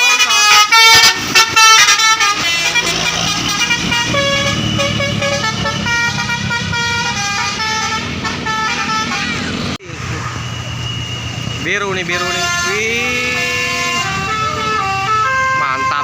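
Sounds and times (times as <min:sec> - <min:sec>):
bus horn playing melody: 0:00.0 - 0:09.7, 0:12.1 - 0:16.0
bus engine running: 0:00.0 - 0:15.8.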